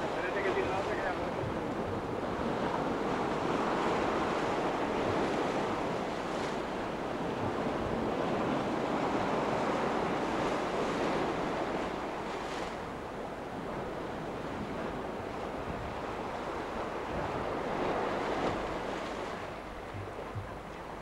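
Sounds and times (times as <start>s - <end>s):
sea waves breaking on rocks: 0.0s - 21.0s
wind on microphone: 0.0s - 21.0s.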